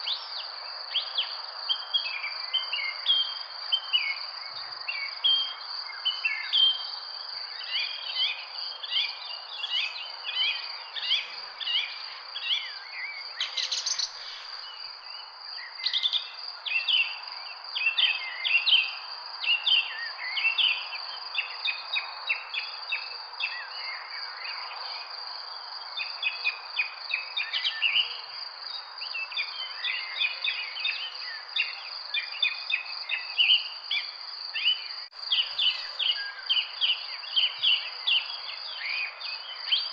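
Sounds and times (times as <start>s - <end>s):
small birds chirping: 0.0s - 18.9s, 25.9s - 39.9s.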